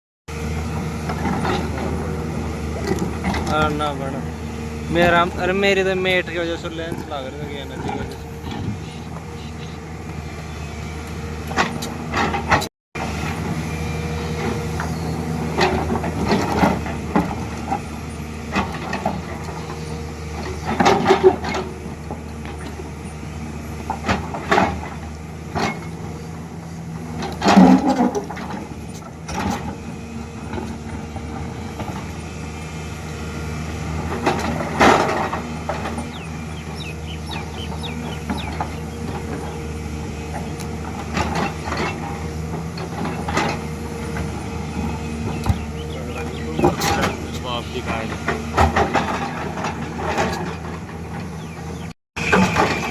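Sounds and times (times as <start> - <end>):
excavator diesel engine running: 0.3 - 52.9.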